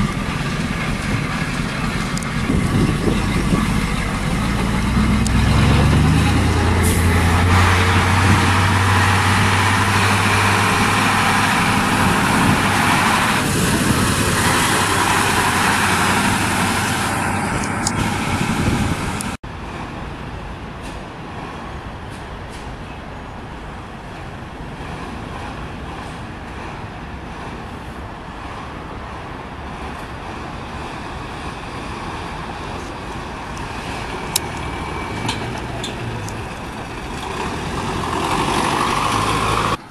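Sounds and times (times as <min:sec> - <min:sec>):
diesel truck engines droning: 0:00.0 - 0:21.3, 0:21.9 - 0:39.9
road noise: 0:00.0 - 0:39.9.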